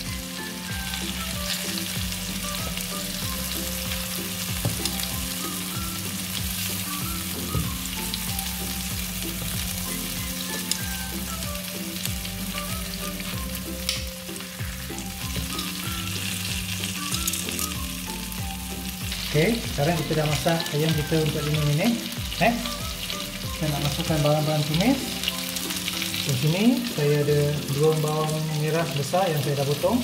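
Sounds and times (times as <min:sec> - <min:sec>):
chicken frying in oil: 0:00.0 - 0:30.0.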